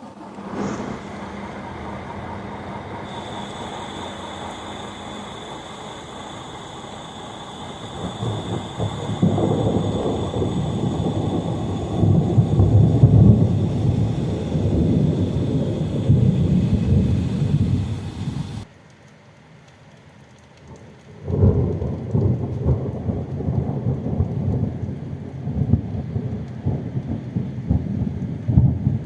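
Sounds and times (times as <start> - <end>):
distant thunder rumbling: 0.0 - 18.7, 20.7 - 29.0.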